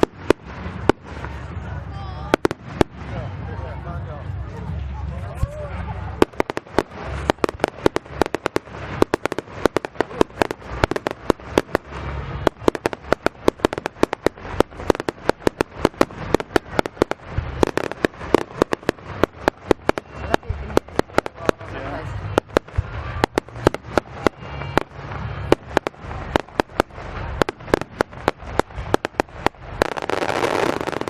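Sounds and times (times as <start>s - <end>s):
fireworks bangs and crackling: 0.0s - 31.0s
low rumble: 0.0s - 31.0s.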